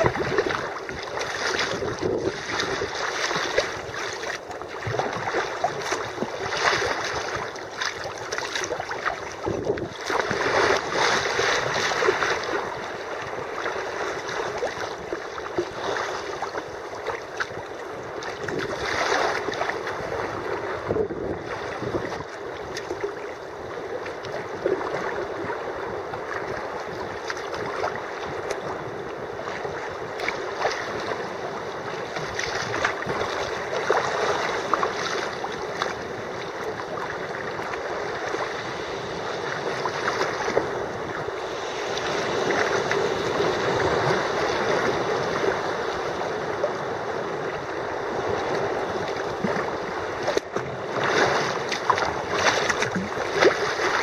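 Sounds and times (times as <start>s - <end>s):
paddle strokes: 0.0s - 54.0s
water splashing along kayak hull: 0.0s - 54.0s.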